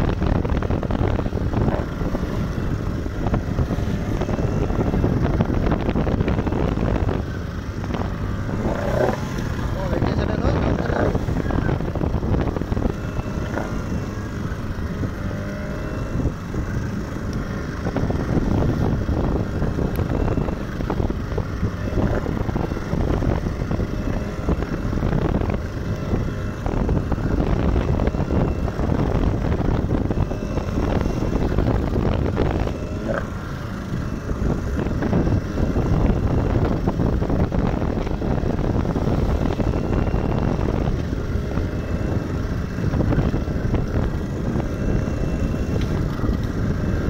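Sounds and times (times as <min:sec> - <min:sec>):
boat engine running: 0:00.0 - 0:47.0
wind buffeting microphone: 0:00.0 - 0:47.0.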